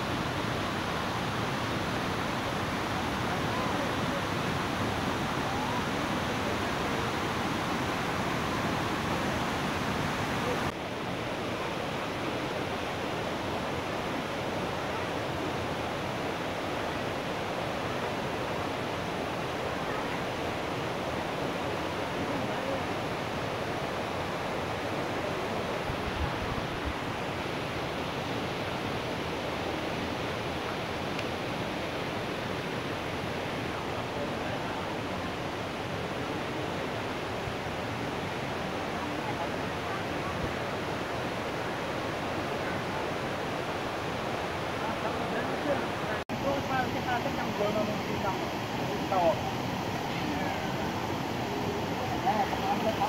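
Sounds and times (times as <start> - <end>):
stream rushing over stones: 0.0 - 53.0.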